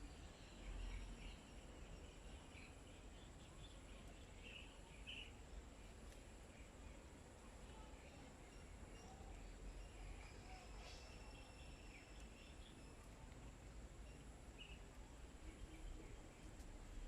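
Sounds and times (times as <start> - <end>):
faint bird chirps: 0.0 - 16.6.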